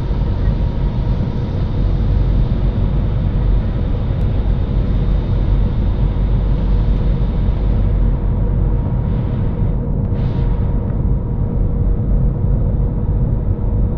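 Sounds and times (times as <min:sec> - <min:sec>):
airliner cabin engine rumble: 0:00.0 - 0:13.9.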